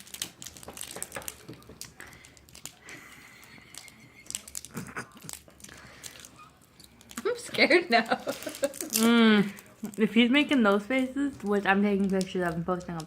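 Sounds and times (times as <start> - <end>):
faint crinkling: 0.0 - 13.0.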